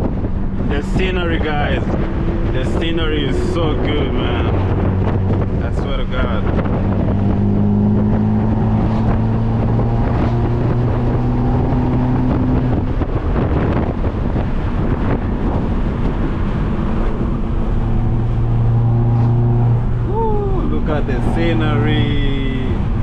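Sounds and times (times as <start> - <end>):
car exhaust droning: 0.0 - 23.0
wind and road noise: 0.0 - 23.0.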